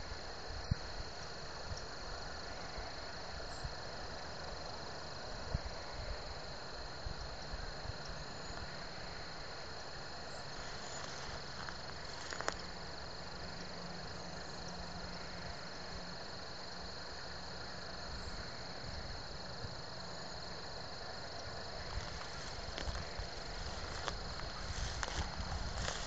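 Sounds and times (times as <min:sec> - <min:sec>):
high insect trill: 0:00.0 - 0:26.0.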